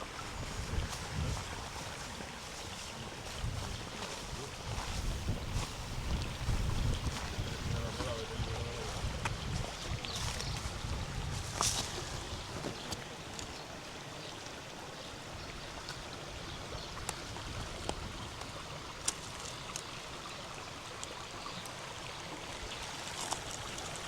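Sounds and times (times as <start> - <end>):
river water babbling: 0.0 - 24.0.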